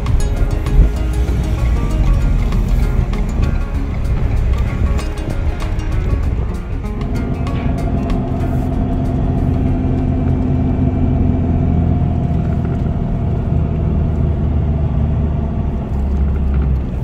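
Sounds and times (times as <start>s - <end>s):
truck engine and tyre drone: 0.0s - 17.0s.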